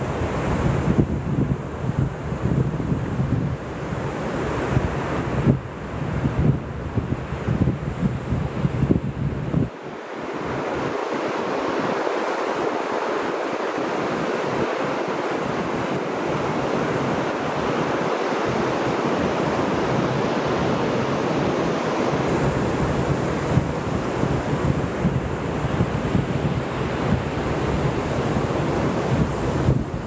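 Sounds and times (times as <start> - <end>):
ocean waves breaking on beach: 0.0 - 30.0.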